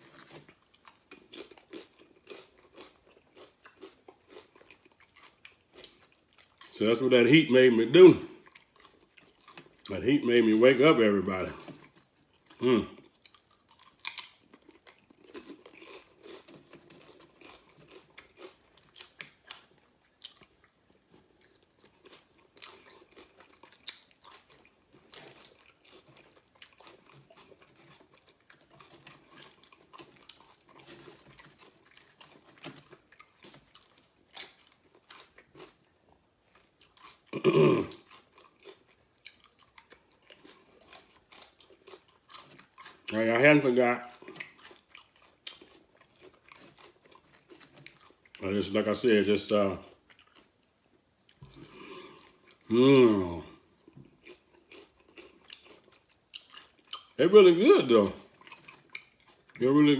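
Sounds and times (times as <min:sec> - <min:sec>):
crunchy chips being chewed: 0:00.0 - 0:59.9.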